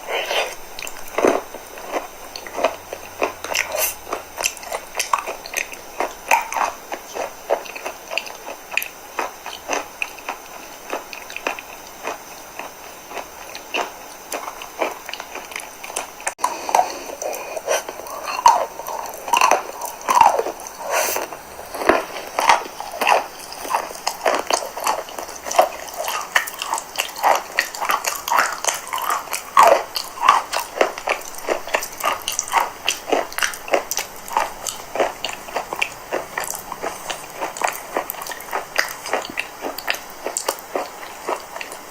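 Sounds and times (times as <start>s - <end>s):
chalk being chewed: 0.0s - 41.9s.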